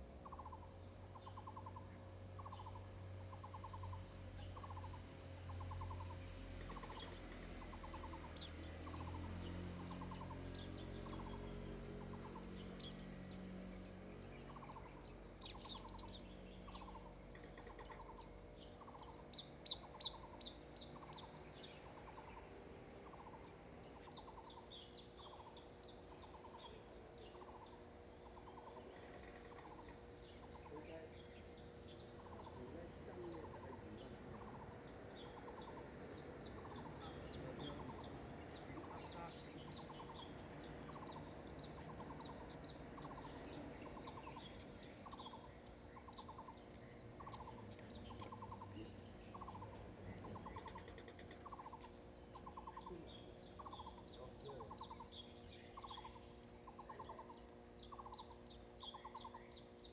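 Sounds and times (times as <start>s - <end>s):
faint steady hum: 0.0s - 59.9s
small birds chirping: 0.0s - 59.9s
bird trilled call: 0.2s - 13.0s, 14.4s - 35.9s, 36.5s - 59.9s.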